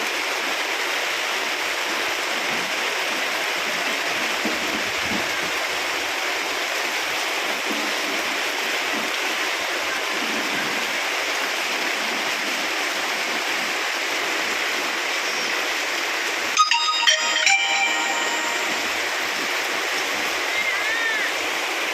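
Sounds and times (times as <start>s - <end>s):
torrential rain pouring: 0.0s - 21.9s.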